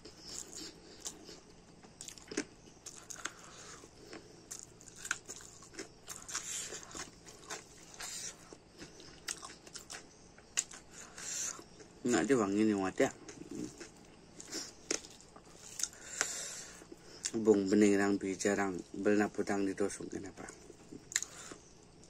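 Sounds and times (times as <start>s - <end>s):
person chewing and crunching: 0.0s - 17.5s, 20.5s - 22.0s.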